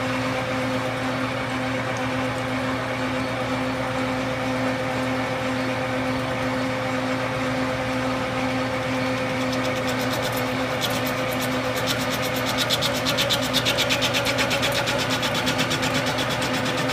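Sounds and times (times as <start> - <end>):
metal lathe motor hum: 0.0 - 16.9.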